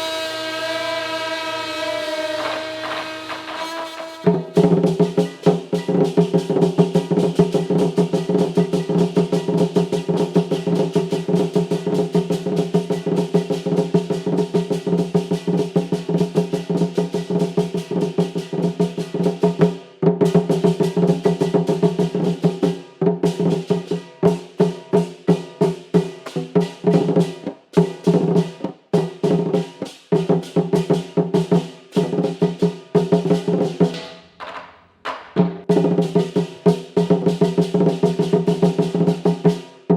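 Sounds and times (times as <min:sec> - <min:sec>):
drum and wood-block strikes: 0:02.3 - 0:39.9.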